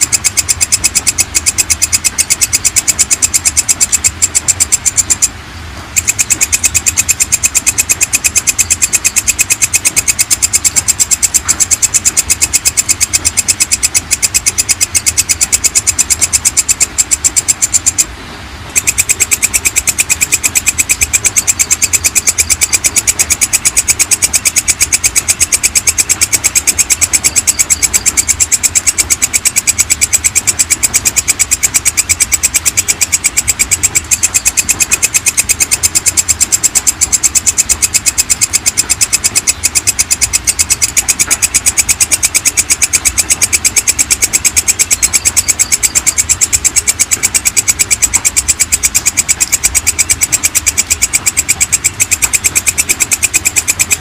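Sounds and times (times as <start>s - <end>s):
katydid buzzy clicking call: 0.0s - 54.0s.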